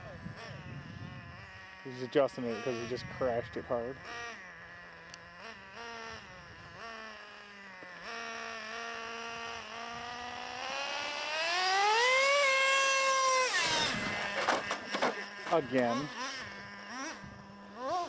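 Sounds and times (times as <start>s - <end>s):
model engine idling and revving: 0.0s - 18.0s.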